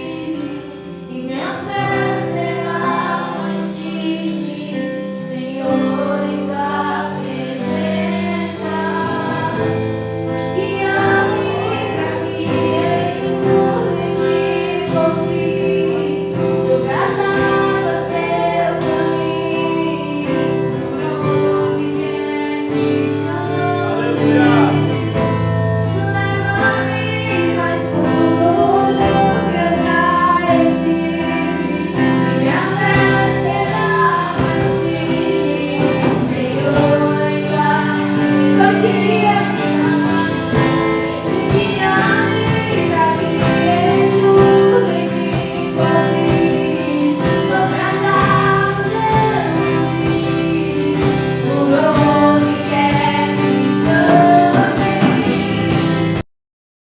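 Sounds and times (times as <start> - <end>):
sung vocals: 0.0 - 56.2
sustained instrumental accompaniment: 0.0 - 56.2.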